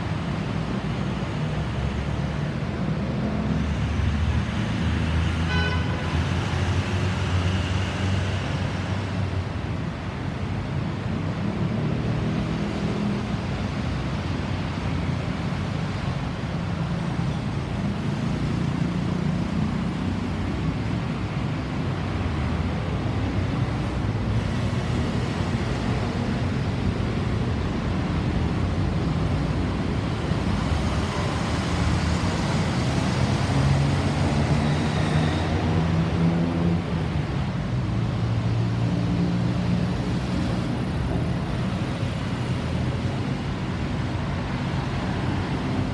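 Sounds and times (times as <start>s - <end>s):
road noise: 0.0s - 45.9s.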